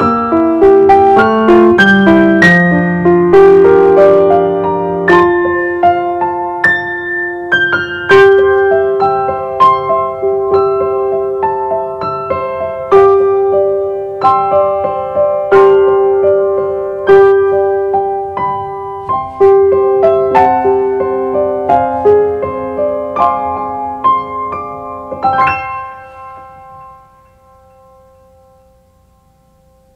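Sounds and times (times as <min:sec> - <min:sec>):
slow piano melody: 0:00.0 - 0:29.9.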